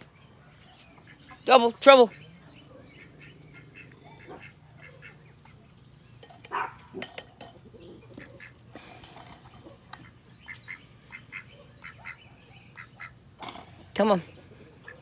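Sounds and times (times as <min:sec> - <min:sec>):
ducks quacking: 0:01.0 - 0:07.1, 0:07.8 - 0:15.0.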